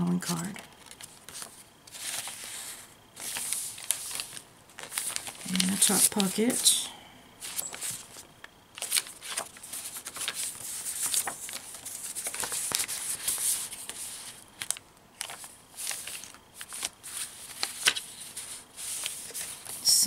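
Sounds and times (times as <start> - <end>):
paper and card rustling: 0.2 - 6.8, 7.4 - 20.0.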